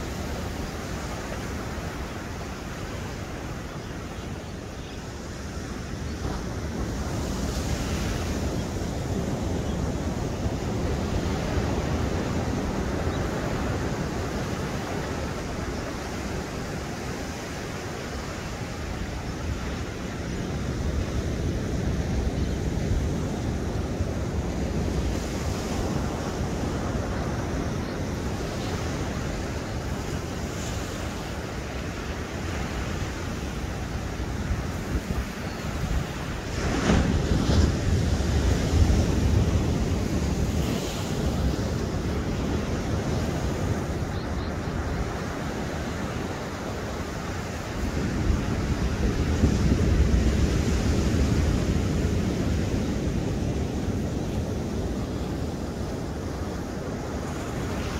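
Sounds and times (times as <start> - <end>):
ocean surf breaking: 0.0 - 57.9
wind buffeting microphone: 5.1 - 57.9.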